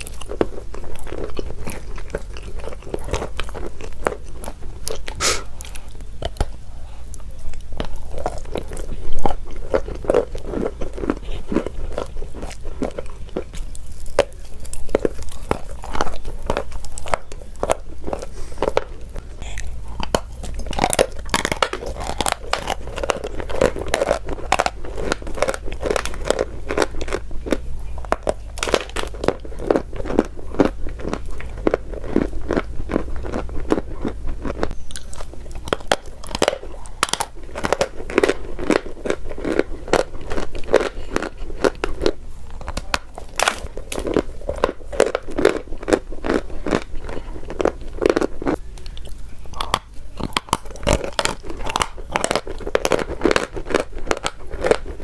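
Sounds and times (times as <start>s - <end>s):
chalk being chewed: 0.0s - 55.0s.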